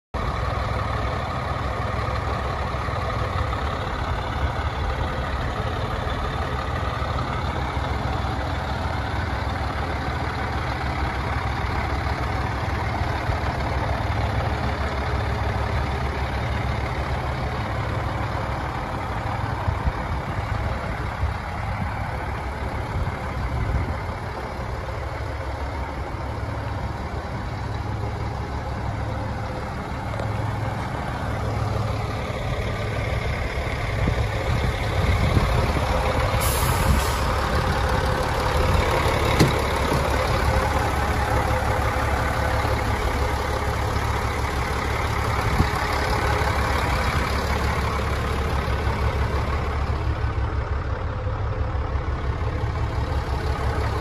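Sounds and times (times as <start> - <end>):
diesel truck engine idling: 0.2 - 54.0.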